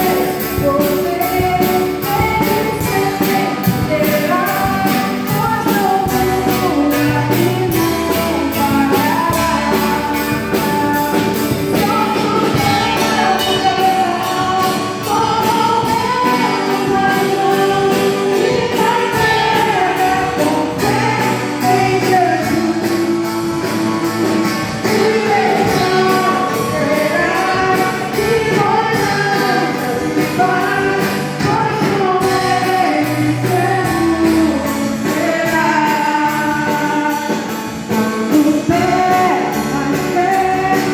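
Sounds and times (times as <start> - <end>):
group singing a hymn: 0.0 - 40.9
live band playing: 0.0 - 40.9
percussion beat: 0.0 - 40.9.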